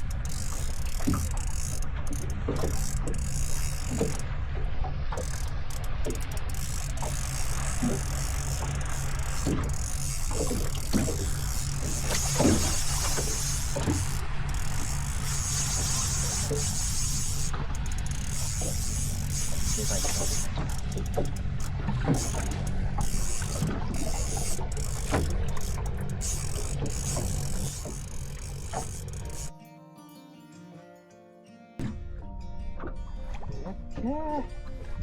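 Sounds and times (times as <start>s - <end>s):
gear knocking and clicking: 0.0s - 4.3s, 5.1s - 29.5s
boat motor rumbling: 0.0s - 29.5s, 31.8s - 35.0s.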